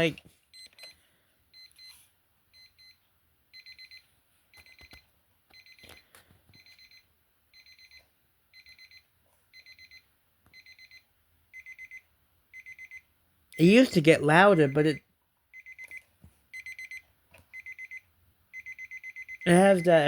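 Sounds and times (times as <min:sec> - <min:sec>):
alarm clock beeping: 0:00.0 - 0:20.0.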